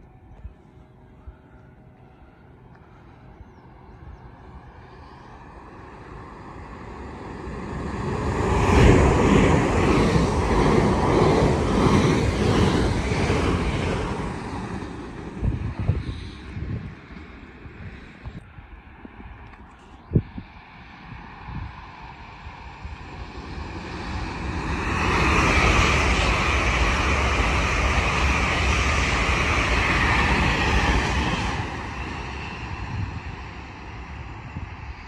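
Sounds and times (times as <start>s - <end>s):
electric train passing: 0.7s - 19.5s, 20.1s - 35.0s.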